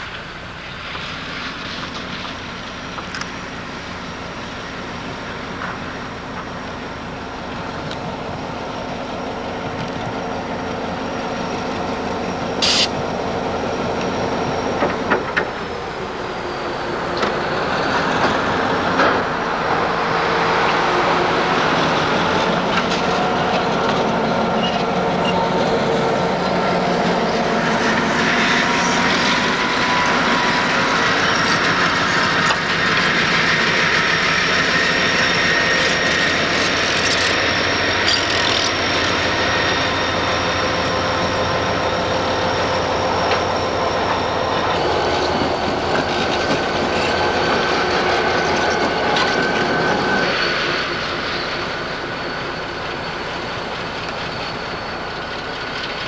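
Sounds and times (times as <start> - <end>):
locomotive engines running: 0.0 - 56.0
rush of plowed snow: 0.0 - 56.0.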